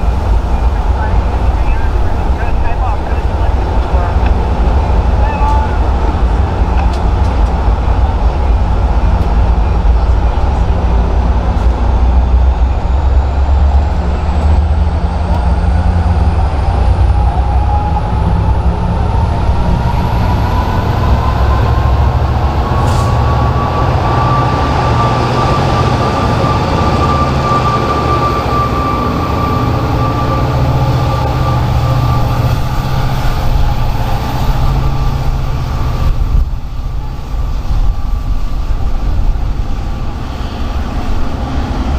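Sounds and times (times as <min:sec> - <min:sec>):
diesel train engine rumble: 0:00.0 - 0:41.9.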